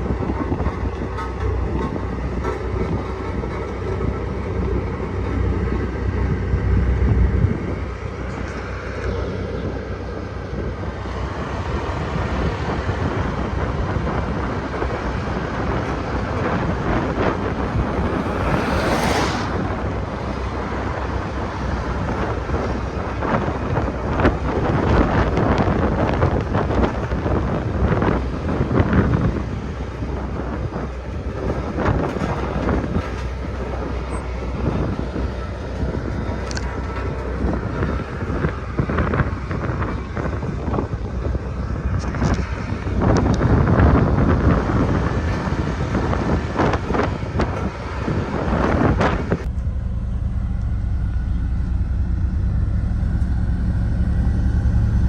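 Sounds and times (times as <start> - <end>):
wind buffeting microphone: 0.0 - 49.5
diesel engine running: 0.0 - 55.0.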